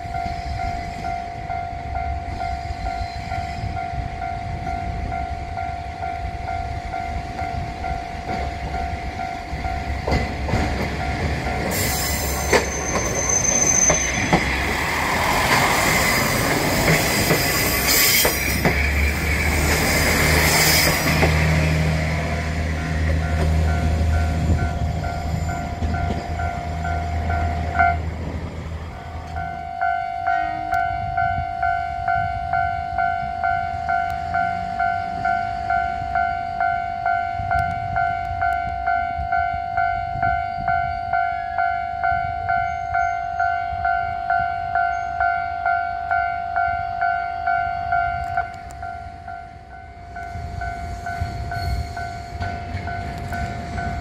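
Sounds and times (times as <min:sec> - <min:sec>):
level-crossing alarm ringing: 0:00.0 - 0:14.4, 0:15.9 - 0:28.1, 0:29.3 - 0:54.0
train rumbling past: 0:00.0 - 0:54.0.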